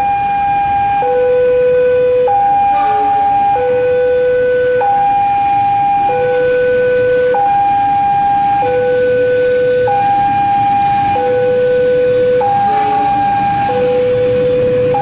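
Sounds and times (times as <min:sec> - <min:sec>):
two-tone warning siren: 0:00.0 - 0:15.0.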